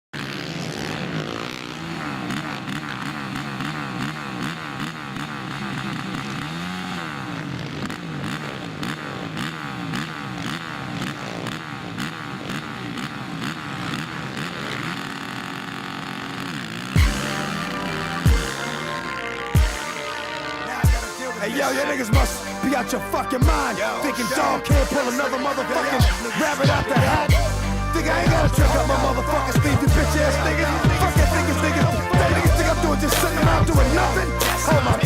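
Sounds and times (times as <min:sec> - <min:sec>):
quad engines revving: 0:00.2 - 0:35.0.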